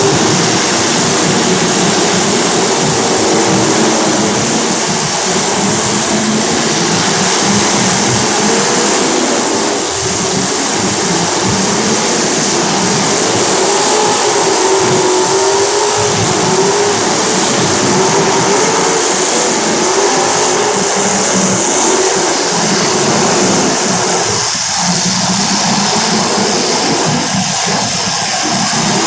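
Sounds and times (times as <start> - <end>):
racing engines: 0.0 - 29.0.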